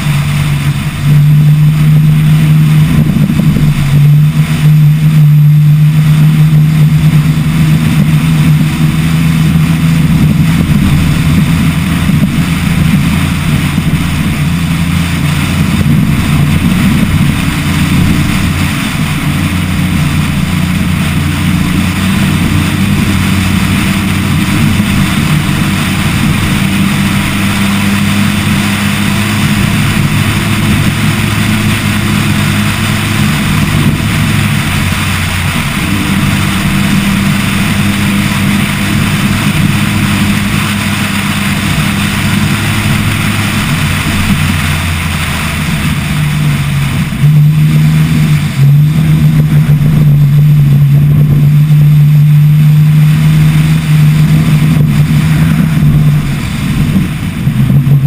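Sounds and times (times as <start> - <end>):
truck engine running hard: 0.0 - 58.0
wind rush: 0.0 - 58.0.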